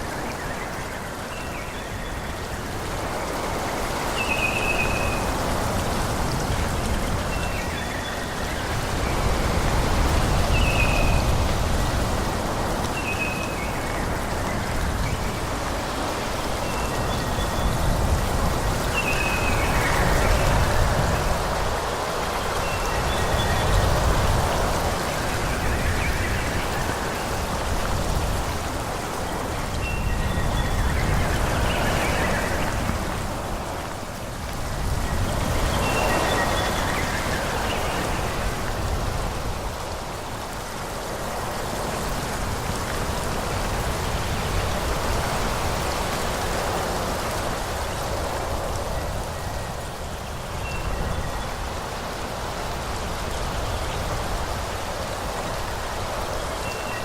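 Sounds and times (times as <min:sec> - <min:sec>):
wind blowing through trees: 0:00.0 - 0:57.0.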